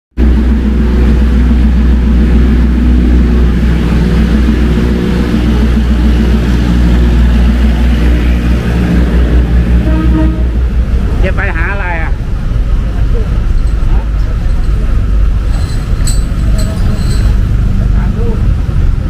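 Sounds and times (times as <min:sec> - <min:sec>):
engine idling: 0:00.2 - 0:19.0.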